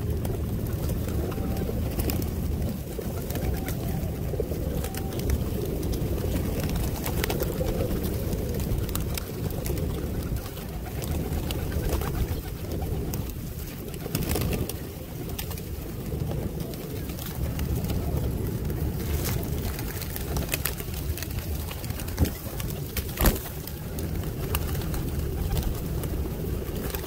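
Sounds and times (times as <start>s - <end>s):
pigeons cooing: 0.0s - 27.0s
wings fluttering: 0.0s - 27.0s.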